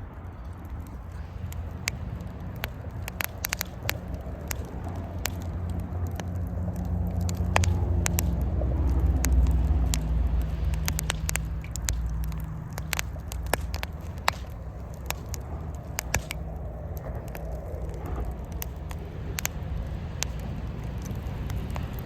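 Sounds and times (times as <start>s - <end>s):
fire low rumble: 0.0s - 22.0s
campfire pops and snaps: 0.2s - 22.0s.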